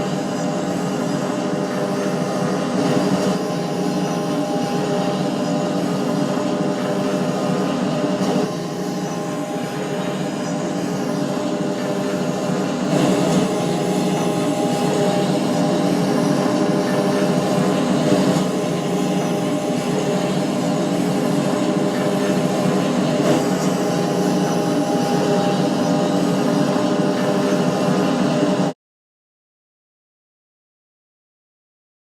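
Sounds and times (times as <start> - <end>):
constant hum: 0.0 - 28.7
passenger train rumbling: 0.0 - 28.7.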